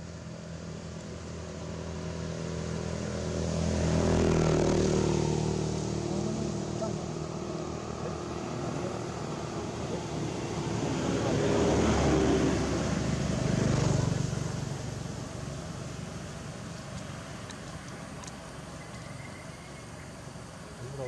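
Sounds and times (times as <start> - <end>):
vehicle engine passing by: 0.5 - 21.0.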